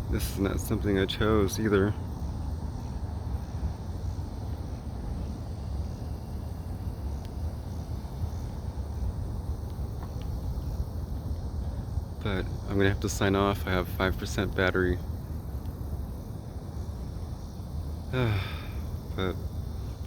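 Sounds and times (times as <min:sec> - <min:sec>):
faint hiss: 0:00.0 - 0:20.0
steady low rumble: 0:00.0 - 0:20.0.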